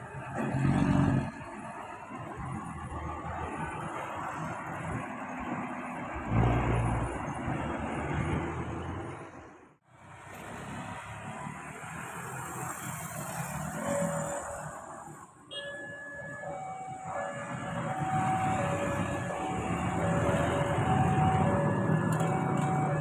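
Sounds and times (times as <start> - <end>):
traffic noise: 0.0 - 23.0.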